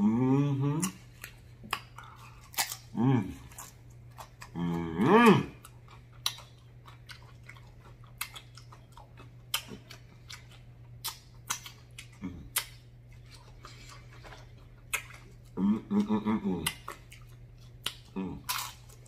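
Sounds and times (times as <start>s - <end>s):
low steady hum: 0.0s - 19.0s
chewing and lip smacking: 0.8s - 19.0s.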